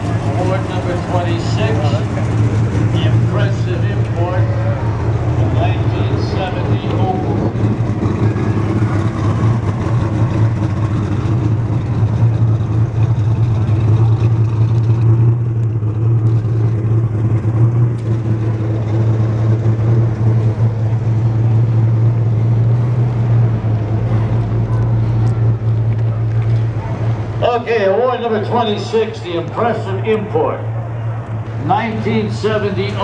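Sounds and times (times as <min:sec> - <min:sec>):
engine running steadily: 0:00.0 - 0:33.0
outdoor background noise: 0:00.0 - 0:33.0.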